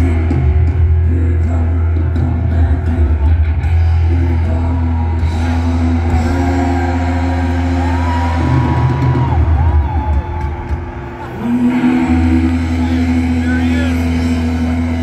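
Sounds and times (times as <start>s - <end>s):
live rock band: 0.0s - 15.0s.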